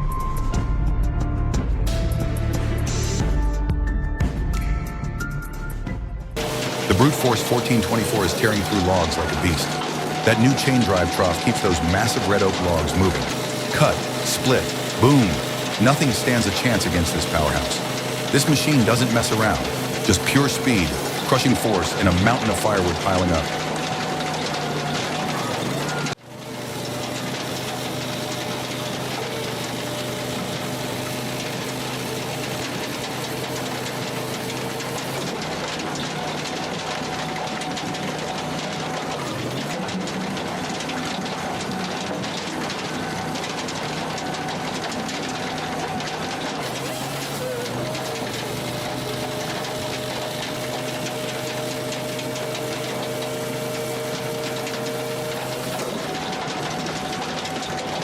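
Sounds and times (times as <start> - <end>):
engine hum: 0.0 - 58.0
machinery clatter: 6.4 - 58.0.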